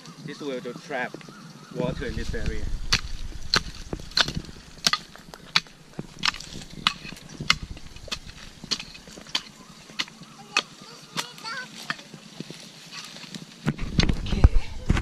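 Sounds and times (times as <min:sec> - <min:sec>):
garden hoe chopping into soil: 0:02.0 - 0:15.0.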